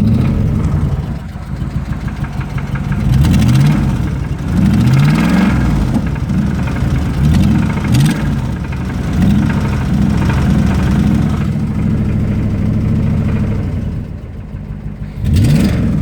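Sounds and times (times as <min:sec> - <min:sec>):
car engine revving: 0:00.0 - 0:16.0
engine knocking: 0:00.0 - 0:16.0.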